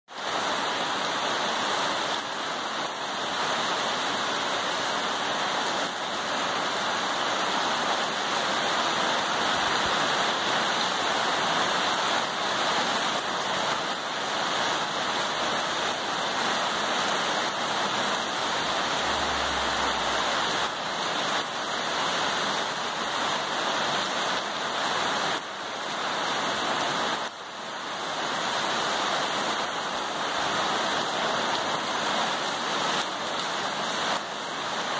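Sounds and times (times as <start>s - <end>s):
rain in gusty wind: 0.1s - 34.9s.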